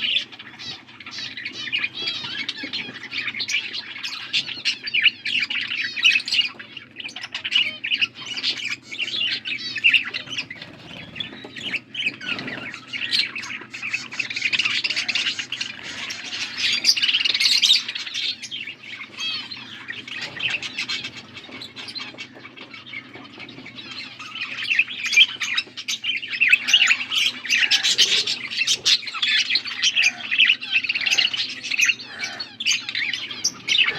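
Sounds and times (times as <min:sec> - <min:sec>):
budgerigars chattering: 0:00.0 - 0:33.9.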